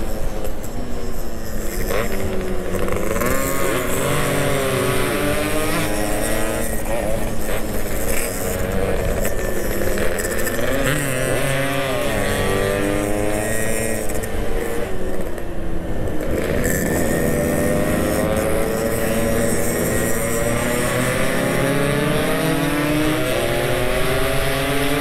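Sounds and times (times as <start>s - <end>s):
two-stroke motorcycle engine revving: 0.0s - 25.0s.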